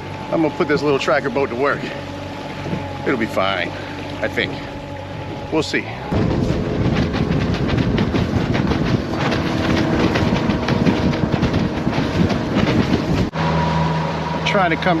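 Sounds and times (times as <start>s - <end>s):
boat hull knocking on water: 0.0s - 13.4s
outboard motor running: 0.0s - 15.0s.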